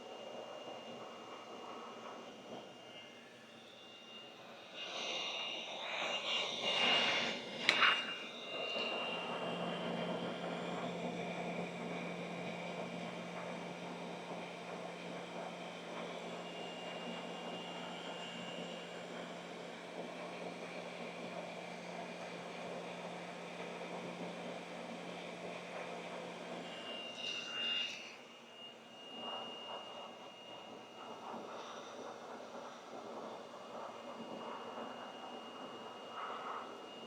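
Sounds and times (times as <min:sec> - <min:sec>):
small motor humming: 0:00.0 - 0:37.0.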